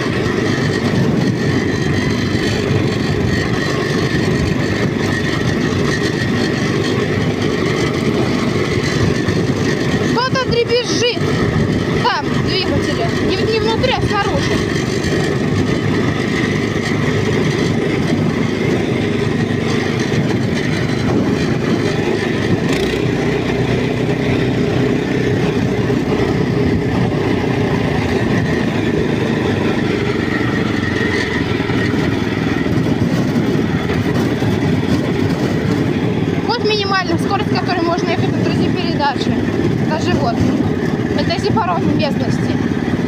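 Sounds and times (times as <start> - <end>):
walk-behind tractor engine running: 0.0 - 43.0.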